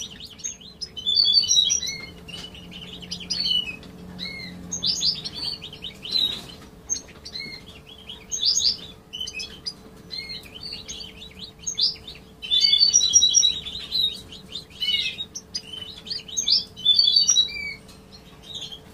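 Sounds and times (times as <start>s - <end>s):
goldfinches twittering and singing: 0.0s - 18.9s.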